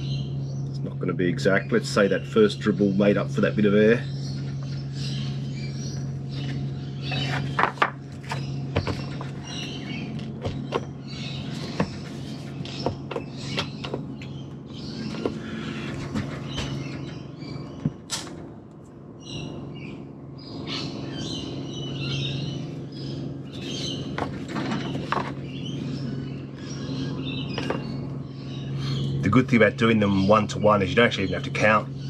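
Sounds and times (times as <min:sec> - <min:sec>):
birds chirping and calling: 0:00.0 - 0:32.0
steady low hum: 0:00.0 - 0:32.0.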